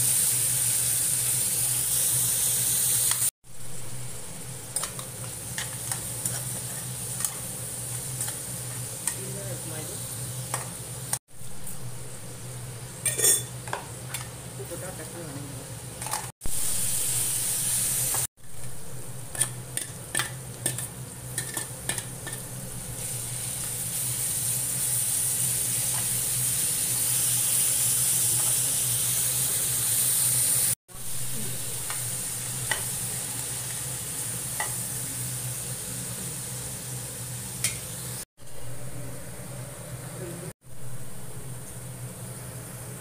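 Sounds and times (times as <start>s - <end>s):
onions sizzling in a pan: 0.0s - 15.8s, 16.4s - 43.0s.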